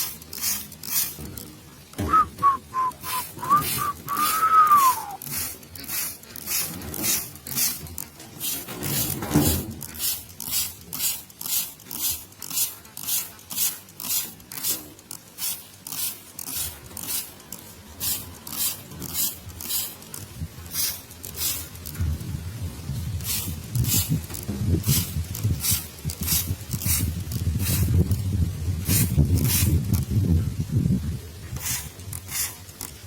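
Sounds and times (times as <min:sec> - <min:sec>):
spray bottle squirting mist: 0:00.0 - 0:22.0, 0:23.0 - 0:30.2, 0:31.5 - 0:33.0.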